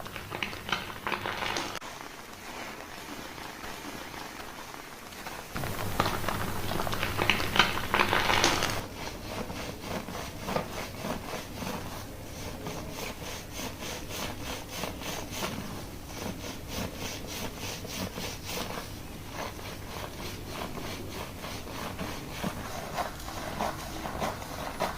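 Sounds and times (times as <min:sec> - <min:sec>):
fingers scrubbing lathered scalp: 0:02.0 - 0:24.9.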